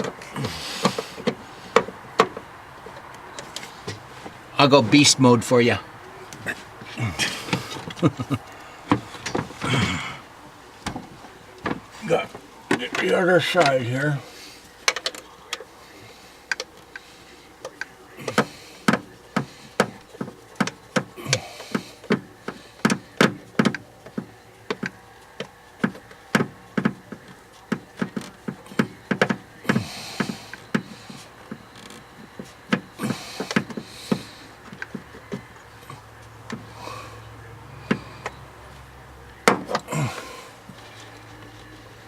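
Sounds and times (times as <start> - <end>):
tools clicking and tapping on engine: 0.0 - 9.8, 10.8 - 42.0.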